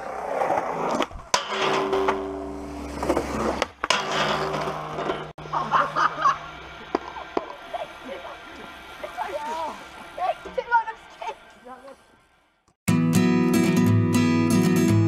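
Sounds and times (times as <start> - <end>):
skateboard wheels rolling on concrete: 0.0 - 12.8.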